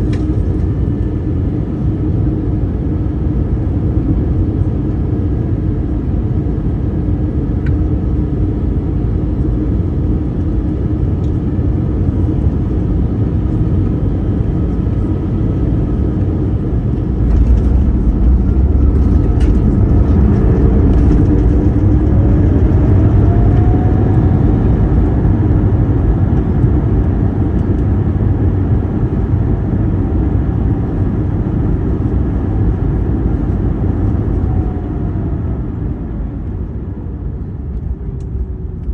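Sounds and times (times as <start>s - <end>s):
airplane cabin roar: 0.0s - 38.9s
jet engine whine: 0.0s - 38.9s.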